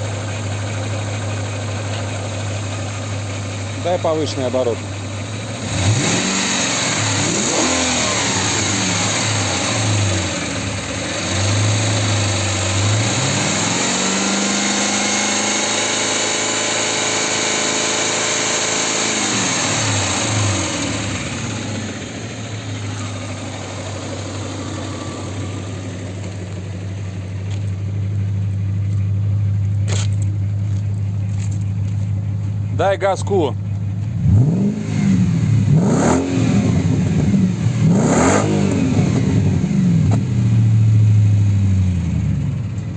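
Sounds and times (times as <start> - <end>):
car engine revving and idling: 0.0 - 42.9.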